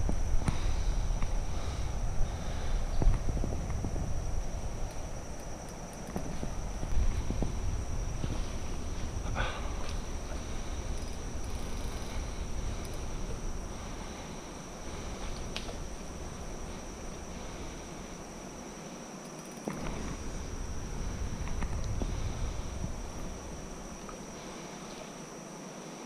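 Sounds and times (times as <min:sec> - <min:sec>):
low rumbling noise: 0:00.0 - 0:19.1, 0:19.7 - 0:24.9
insects droning: 0:00.0 - 0:26.0.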